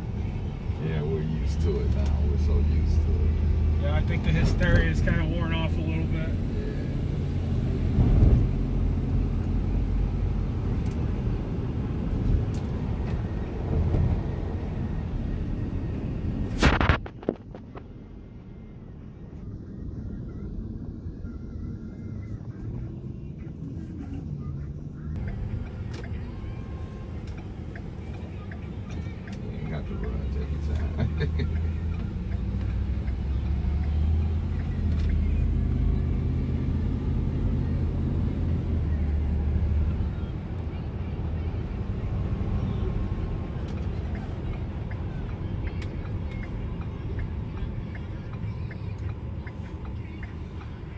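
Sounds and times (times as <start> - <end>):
van engine and road rumble: 0.0 - 50.9.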